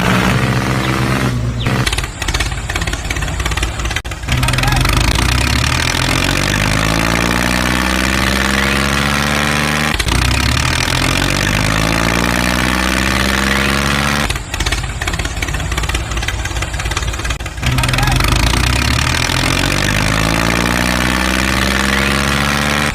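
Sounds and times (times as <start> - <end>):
engine revving: 0.0 - 22.9.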